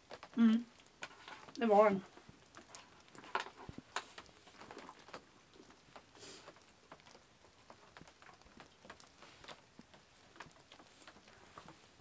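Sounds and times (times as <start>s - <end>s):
faint small clicks and rustles: 0.0s - 12.0s.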